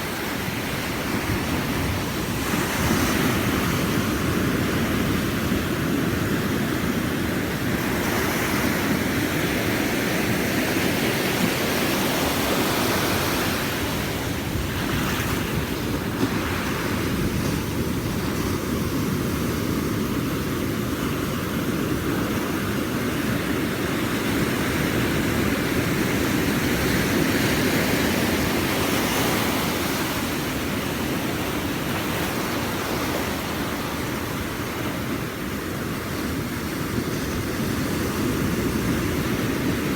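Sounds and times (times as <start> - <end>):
ocean waves on beach: 0.0 - 39.9.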